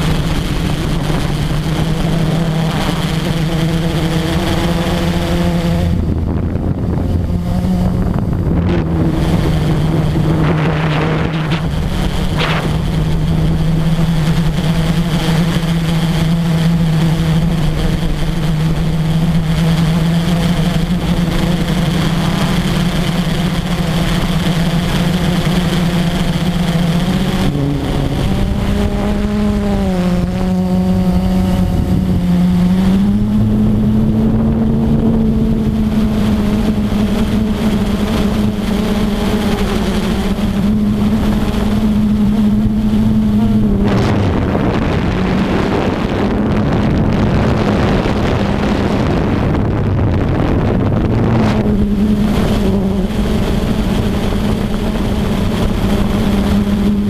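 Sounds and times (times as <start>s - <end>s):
quadcopter propellers humming: 0.0s - 57.0s.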